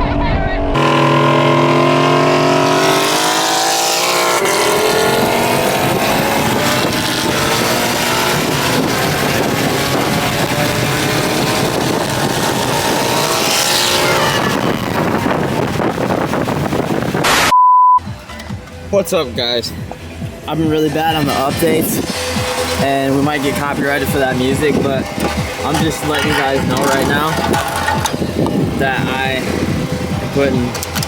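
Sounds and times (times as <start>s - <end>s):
wind and road noise: 0.0s - 31.0s
car engine revving: 0.7s - 17.5s, 19.7s - 31.0s.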